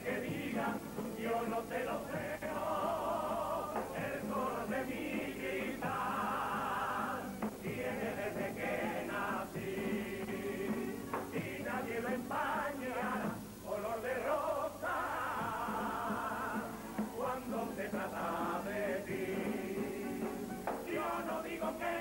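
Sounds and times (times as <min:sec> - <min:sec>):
male chorus singing: 0:00.0 - 0:22.0.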